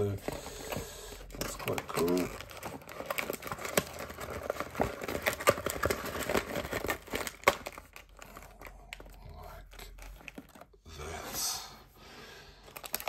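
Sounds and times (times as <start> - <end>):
plastic wrapping crinkling and tearing: 0.0 - 10.8, 12.6 - 13.0.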